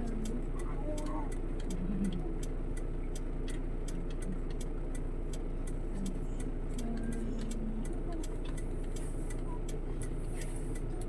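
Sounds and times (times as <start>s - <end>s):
rapid light ticking: 0.0s - 11.0s
vehicle engine rumbling: 0.0s - 11.0s.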